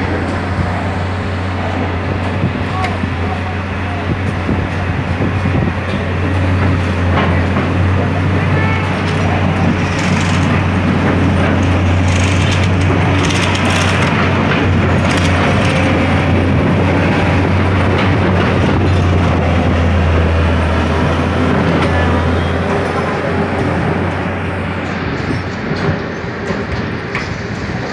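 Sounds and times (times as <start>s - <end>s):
low engine drone: 0.0s - 27.9s
steel wheels rumbling on rails: 0.0s - 27.9s.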